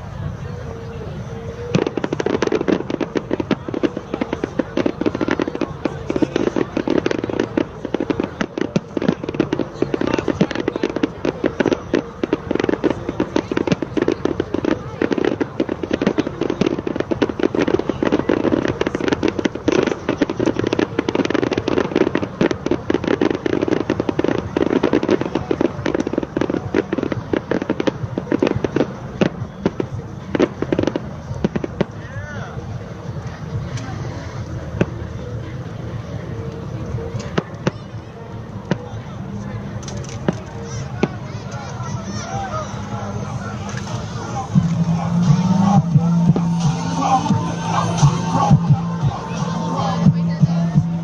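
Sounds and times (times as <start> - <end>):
fireworks bangs and crackling: 0.0 - 51.0.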